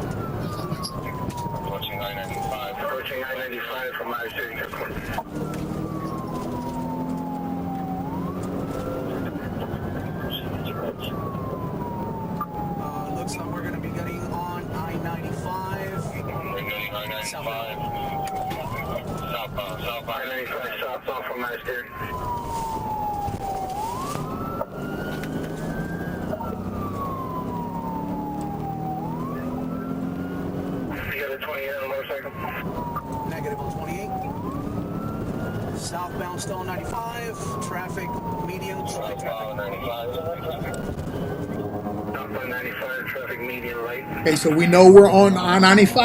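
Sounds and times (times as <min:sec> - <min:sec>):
engine hum: 0:00.0 - 0:46.0
police siren wailing: 0:00.0 - 0:46.0
road noise: 0:00.0 - 0:46.0.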